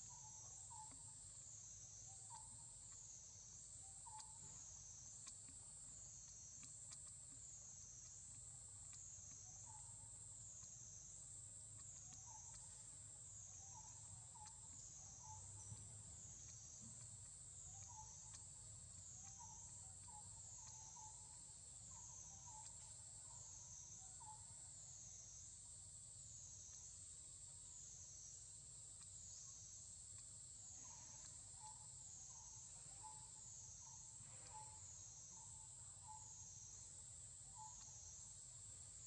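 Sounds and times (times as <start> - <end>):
insect drone: 0.0 - 39.0.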